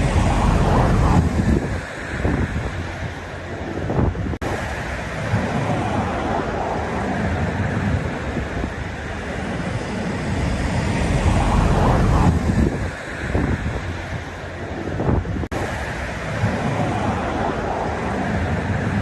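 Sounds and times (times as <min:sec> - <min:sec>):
sea surf washing in: 0:00.0 - 0:19.0
wind rumbling on microphone: 0:00.0 - 0:19.0.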